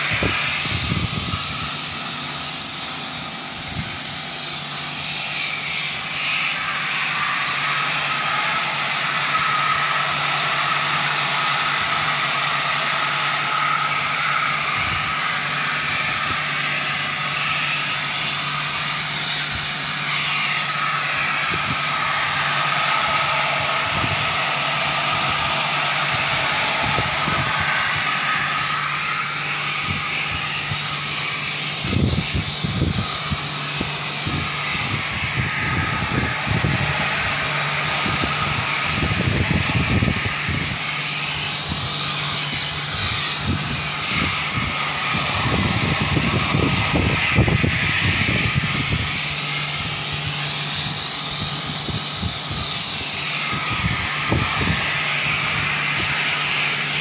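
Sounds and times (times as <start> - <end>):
pressure washer spraying water: 0.0 - 57.0.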